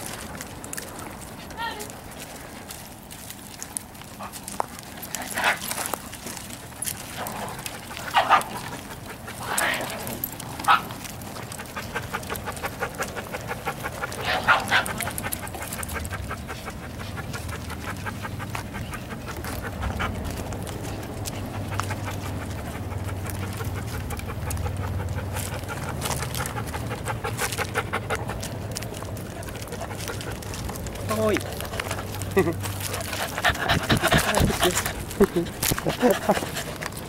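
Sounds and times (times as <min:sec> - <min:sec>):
dogs panting: 0:00.0 - 0:37.0.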